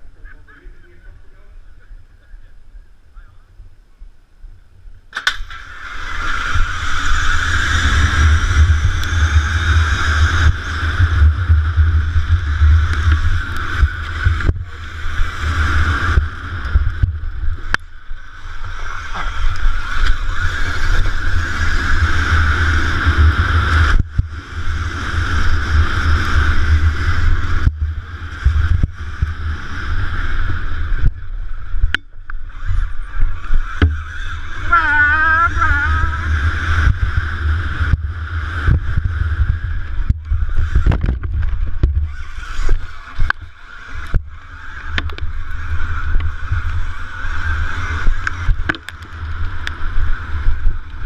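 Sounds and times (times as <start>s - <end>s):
wind buffeting microphone: 0.0s - 51.0s
electric motor whine: 5.5s - 51.0s.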